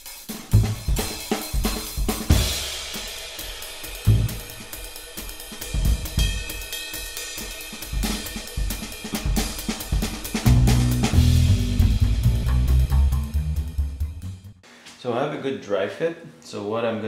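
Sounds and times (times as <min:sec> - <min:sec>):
music with drum-kit beat: 0:00.0 - 0:14.6.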